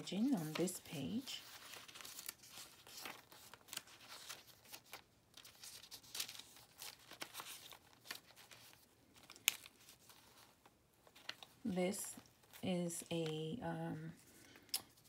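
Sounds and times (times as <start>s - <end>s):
paper pages rustling: 0.0s - 13.6s.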